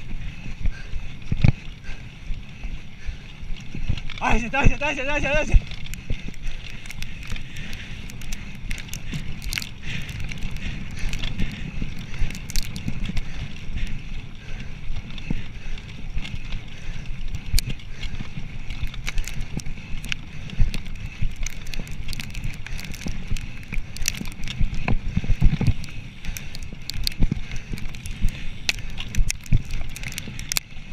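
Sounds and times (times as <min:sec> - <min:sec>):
bike clicking and rattling: 0:00.0 - 0:30.9
bike tyres rumbling on dirt: 0:00.0 - 0:30.9.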